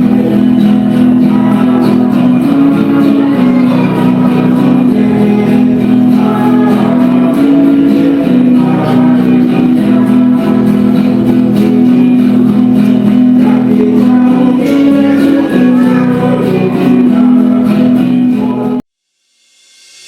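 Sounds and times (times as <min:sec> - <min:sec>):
hymn singing: 0:00.0 - 0:18.8
instrumental accompaniment: 0:00.0 - 0:18.8.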